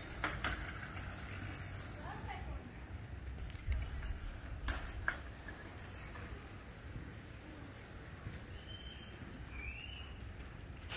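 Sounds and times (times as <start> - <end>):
bicycle tyres on concrete: 0.0 - 10.9.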